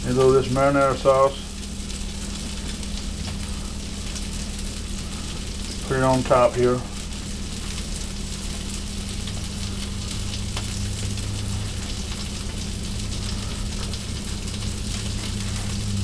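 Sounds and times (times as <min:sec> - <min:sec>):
low steady hum: 0:00.0 - 0:16.0
meat sizzling in a skillet: 0:00.0 - 0:16.0.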